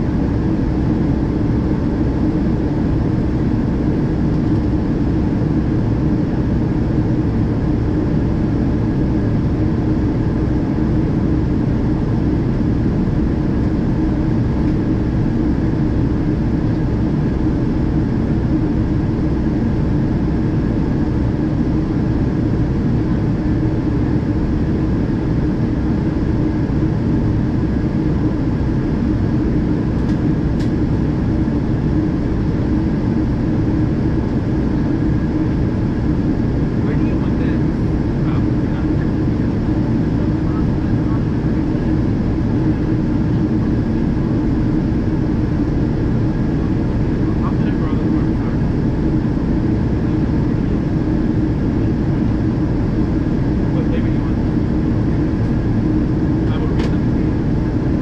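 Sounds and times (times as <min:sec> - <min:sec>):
jet engines droning: 0:00.0 - 0:58.0
steady low hum: 0:00.0 - 0:58.0.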